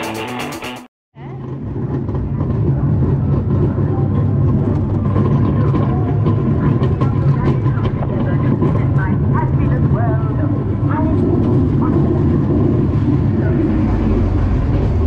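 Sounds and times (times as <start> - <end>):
ride car rumbling on rail: 1.2 - 15.0.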